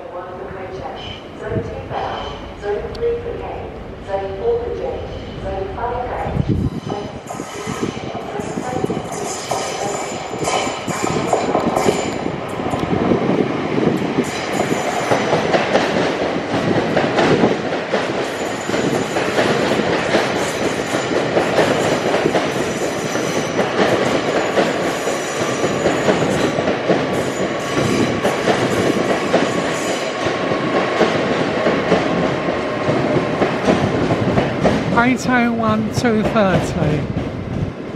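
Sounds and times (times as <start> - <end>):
wheels rumbling on rail: 0.2 - 37.9.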